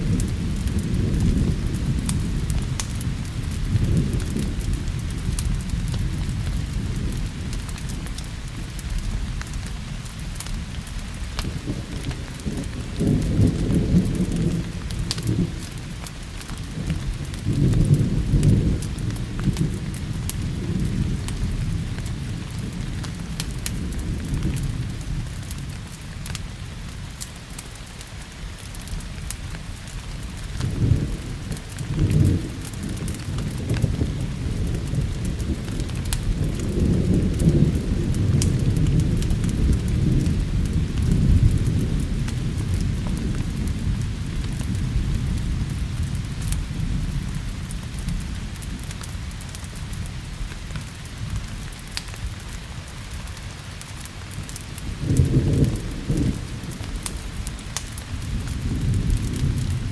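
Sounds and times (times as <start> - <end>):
rolling thunder: 0.0 - 9.4, 10.6 - 26.9, 30.3 - 50.3, 54.3 - 59.9
steady rain: 0.0 - 59.9.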